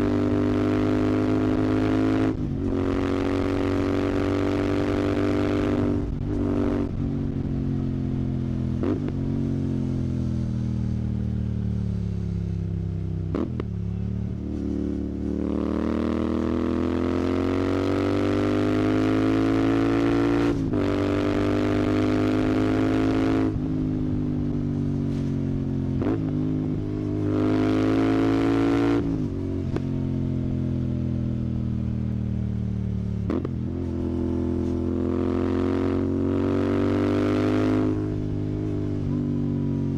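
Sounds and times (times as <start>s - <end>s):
motorcycle engine accelerating and shifting: 0.0s - 39.9s.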